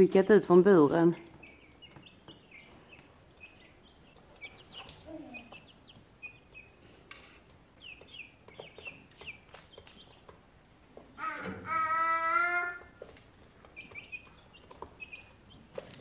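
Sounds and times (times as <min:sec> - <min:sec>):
chicks peeping: 0:00.5 - 0:16.0.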